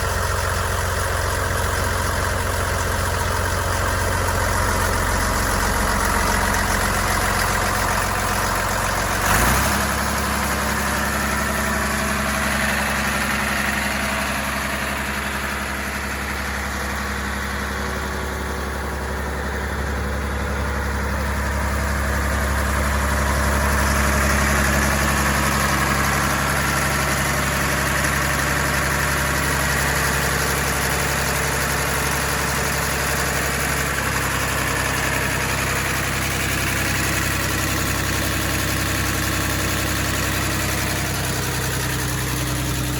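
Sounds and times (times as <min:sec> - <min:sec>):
concrete pump engine idling: 0:00.0 - 0:42.9.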